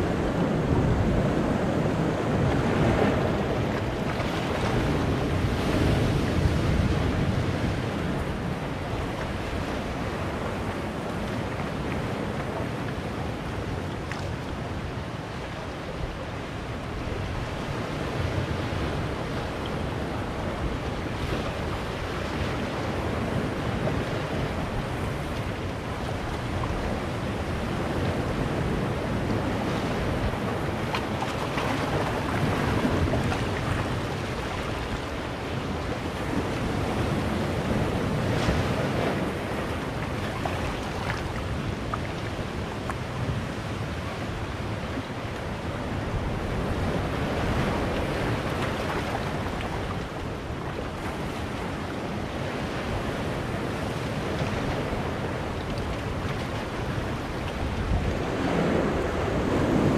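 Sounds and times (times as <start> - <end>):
sea surf washing among boulders: 0.0 - 59.9.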